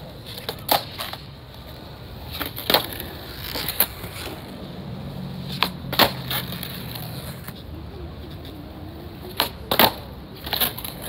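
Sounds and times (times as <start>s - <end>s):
skateboard clacking on ground: 0.0s - 11.0s
skateboard wheels rolling: 0.0s - 11.0s.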